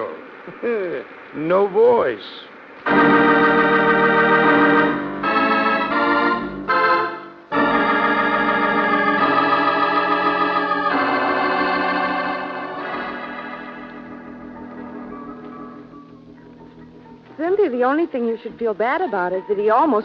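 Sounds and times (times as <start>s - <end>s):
organ chords: 0.0s - 20.0s.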